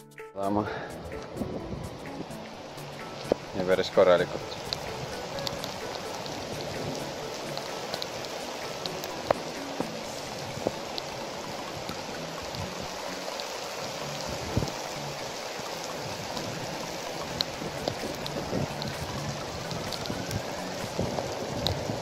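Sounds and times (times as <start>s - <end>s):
steady rain falling: 0.4s - 22.0s
single raindrops ticking: 2.3s - 22.0s.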